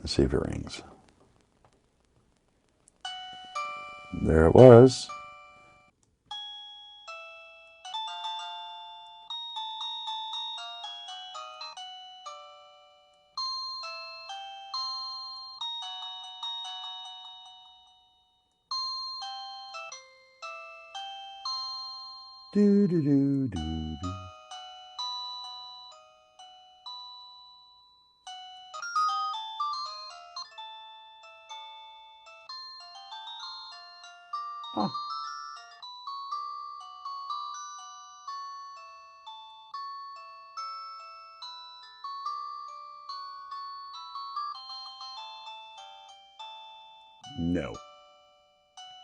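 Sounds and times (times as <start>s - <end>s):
doorbell chime melody: 3.0s - 49.0s.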